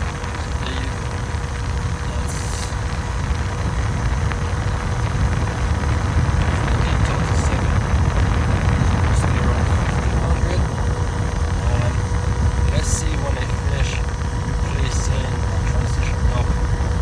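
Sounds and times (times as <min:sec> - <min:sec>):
exhaust air rushing: 0:00.0 - 0:17.0
faint blower hum: 0:00.0 - 0:17.0.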